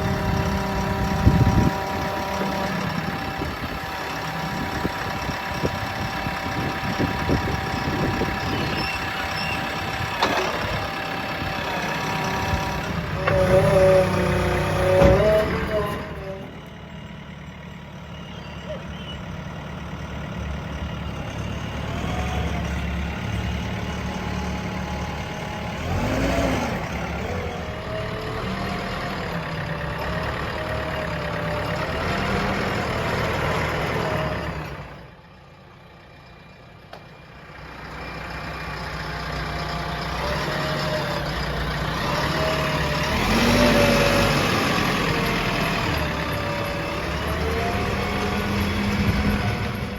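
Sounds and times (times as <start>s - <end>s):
diesel engines revving under load: 0.0s - 49.9s.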